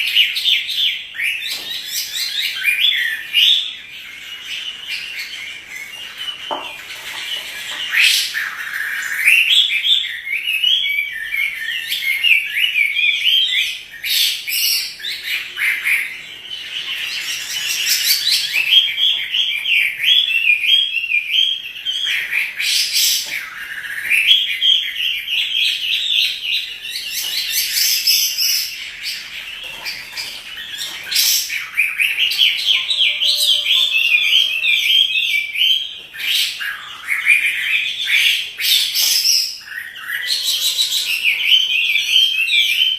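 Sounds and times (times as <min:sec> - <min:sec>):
bird warbling song: 0:00.0 - 0:42.9.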